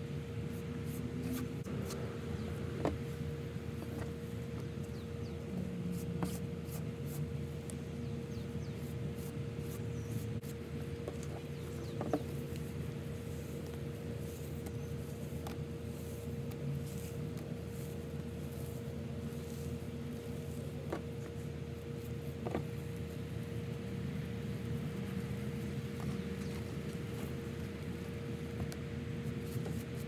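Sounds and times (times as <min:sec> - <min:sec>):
air conditioner humming: 0:00.0 - 0:30.0.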